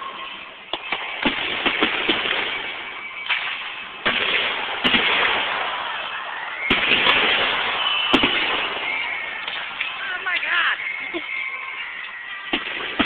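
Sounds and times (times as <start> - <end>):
fireworks crackling and hissing: 0.0 - 13.0
firework shells bursting: 0.7 - 13.0.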